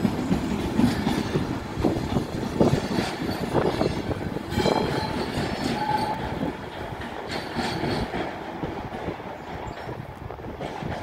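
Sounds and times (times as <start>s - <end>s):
train wheels clattering over joints: 0.0s - 11.0s.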